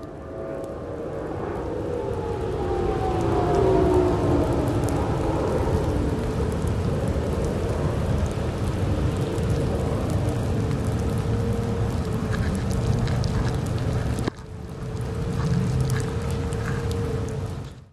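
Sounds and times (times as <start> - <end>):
rain: 0.0 - 17.9
raindrops ticking on camera: 2.2 - 17.9
low rumble: 3.0 - 17.9.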